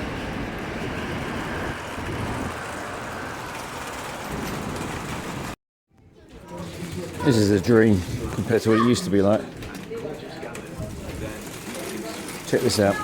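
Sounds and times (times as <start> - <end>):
small wheels rolling on smooth floor: 0.0 - 5.6, 6.2 - 13.0.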